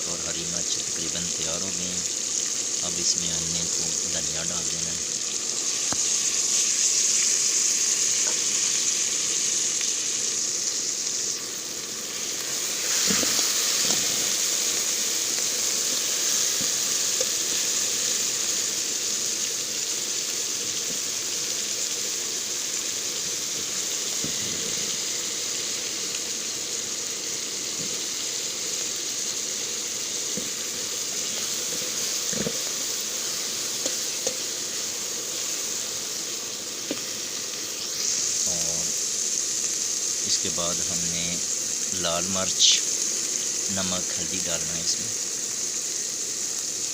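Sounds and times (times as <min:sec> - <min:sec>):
masala sizzling in a pot: 0:00.0 - 0:46.9.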